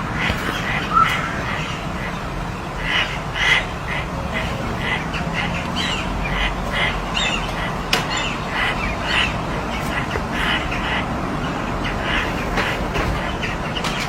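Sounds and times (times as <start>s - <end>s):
steady low rumble: 0.0s - 12.5s
crow calling: 0.0s - 14.0s.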